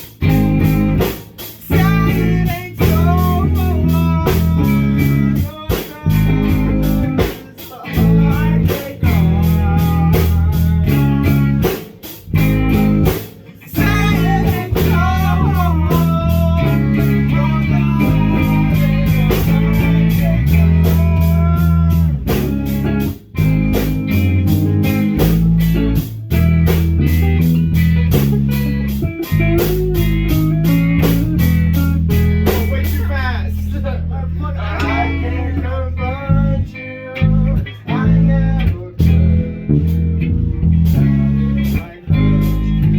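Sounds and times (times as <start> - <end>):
blues-rock band playing: 0.0 - 42.9
guitar bending notes: 0.0 - 42.9.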